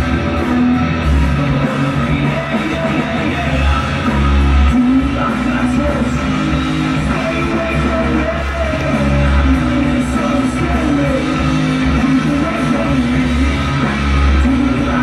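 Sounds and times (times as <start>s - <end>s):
bass guitar: 0.0s - 15.0s
drums: 0.0s - 15.0s
electric guitars: 0.0s - 15.0s
person singing: 0.0s - 15.0s.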